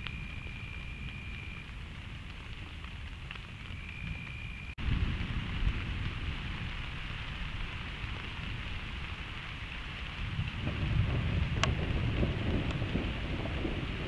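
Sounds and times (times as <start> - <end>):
rain hiss: 0.0 - 14.0
rolling thunder: 0.0 - 14.0.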